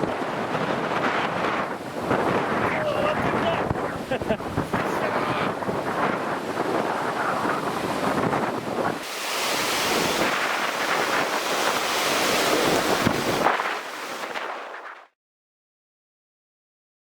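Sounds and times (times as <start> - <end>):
wind buffeting microphone: 0.0 - 15.0
ocean surf breaking: 0.0 - 15.1.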